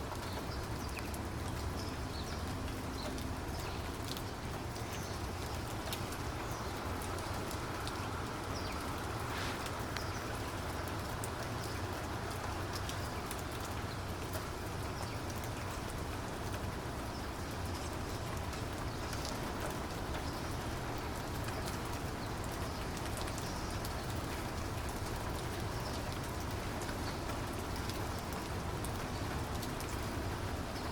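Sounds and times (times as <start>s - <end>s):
raindrops pattering and ticking: 0.0s - 30.9s
steady rainfall hiss: 0.0s - 30.9s.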